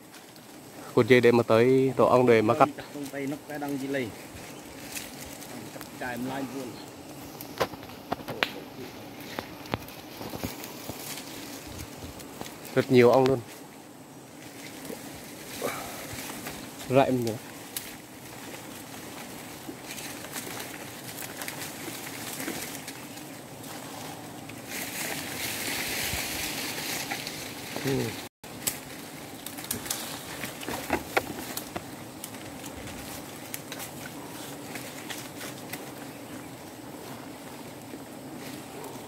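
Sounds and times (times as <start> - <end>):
bees humming: 0.0 - 39.0
leaves and branches rustling: 0.0 - 39.0.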